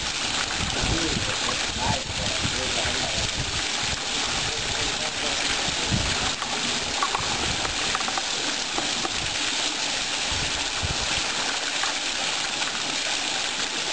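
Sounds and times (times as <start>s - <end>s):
fountain water splashing: 0.0s - 13.9s.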